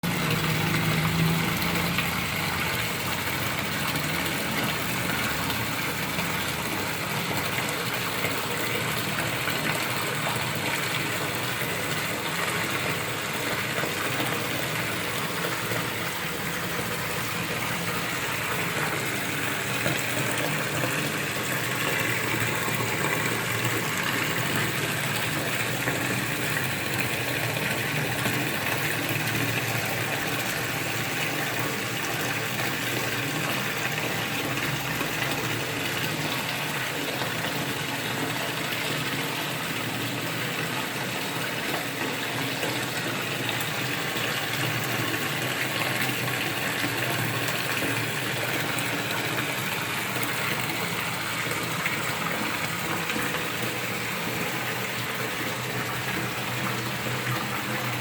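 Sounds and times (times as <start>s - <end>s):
waterfall pouring into pond: 0.0s - 58.0s.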